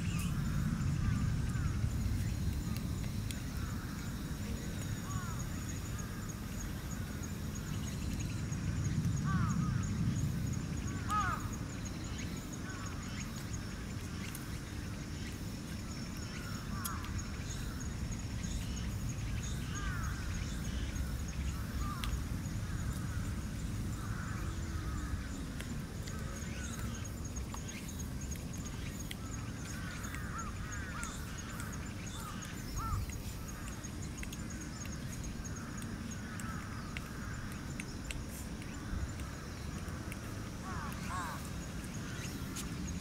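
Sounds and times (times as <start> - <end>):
low steady outdoor rumble: 0.0 - 43.0.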